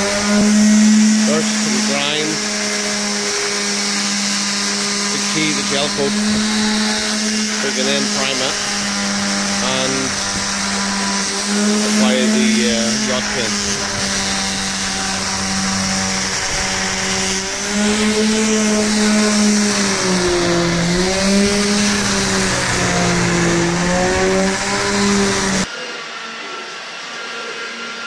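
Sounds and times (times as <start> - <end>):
dust extractor whirring: 0.0 - 25.7
electric sander on fibreglass: 0.0 - 25.7.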